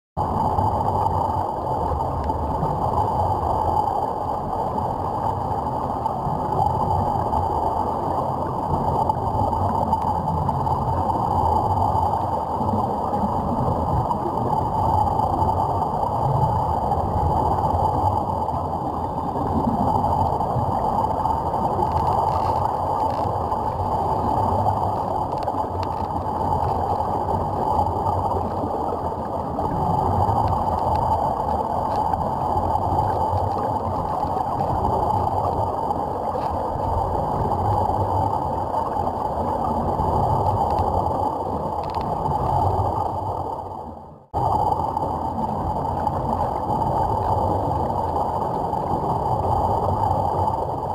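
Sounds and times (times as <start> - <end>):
underwater air bubbling: 0.2 - 50.9.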